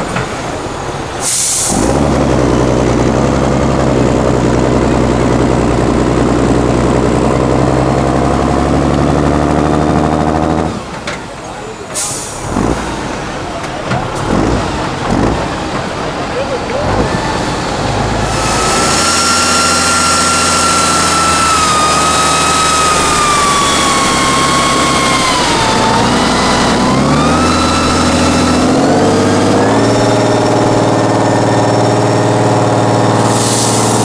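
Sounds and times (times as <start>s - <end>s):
diesel truck engine under load: 0.0s - 34.0s.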